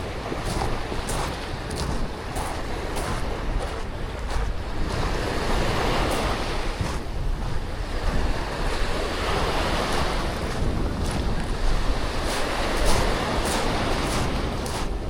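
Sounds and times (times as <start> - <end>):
sea waves breaking on beach: 0.0 - 15.0
wind rumbling on microphone: 0.0 - 15.0.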